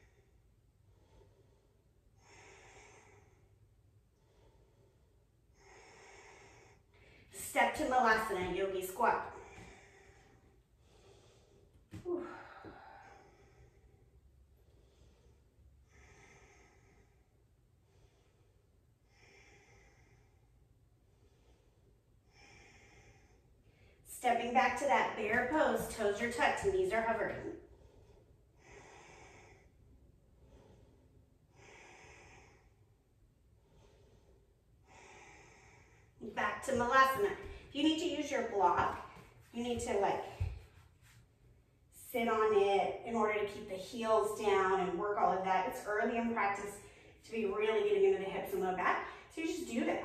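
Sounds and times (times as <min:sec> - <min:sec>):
woman breathing: 0:00.0 - 0:41.8, 0:44.0 - 0:50.0.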